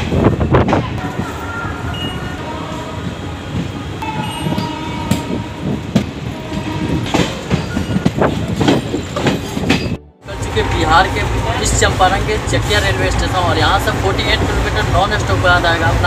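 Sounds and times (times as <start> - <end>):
train rolling rumble: 0.0 - 16.0.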